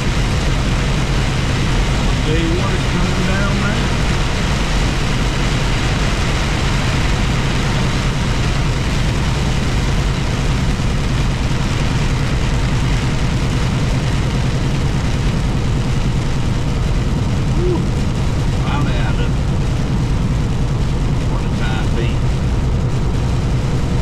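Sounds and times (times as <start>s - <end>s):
rain hiss: 0.0s - 24.0s
truck engine drone: 0.0s - 24.0s
tyres on wet road: 0.0s - 24.0s.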